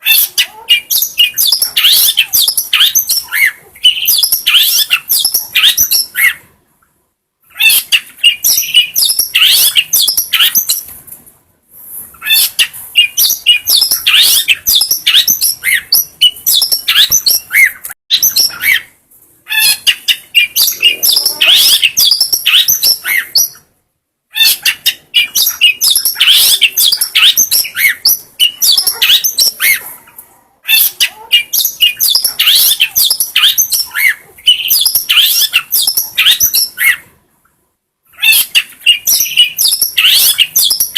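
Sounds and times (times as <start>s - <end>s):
shrike chirping and twittering: 0.0s - 6.5s, 7.5s - 10.9s, 12.1s - 23.7s, 24.3s - 29.9s, 30.7s - 37.1s, 38.1s - 40.9s.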